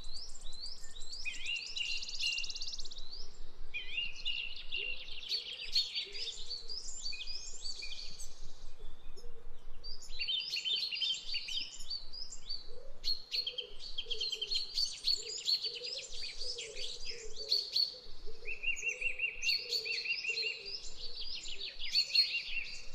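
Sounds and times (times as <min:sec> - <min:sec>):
small birds chirping and singing: 0:00.0 - 0:22.9.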